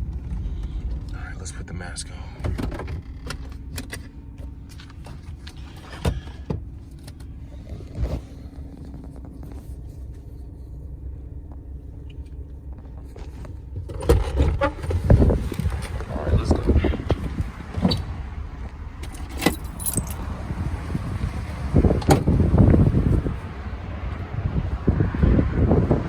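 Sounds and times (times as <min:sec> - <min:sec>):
vehicle idling: 0:00.0 - 0:26.0.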